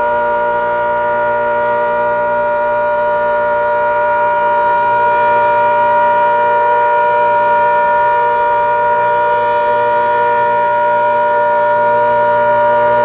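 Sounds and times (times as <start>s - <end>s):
warning siren steady tone: 0.0s - 13.0s.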